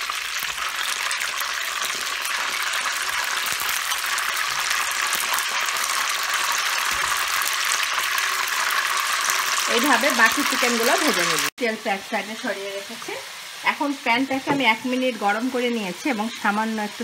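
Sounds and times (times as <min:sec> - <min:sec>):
hot oil sizzling in a wok: 0:00.0 - 0:17.0.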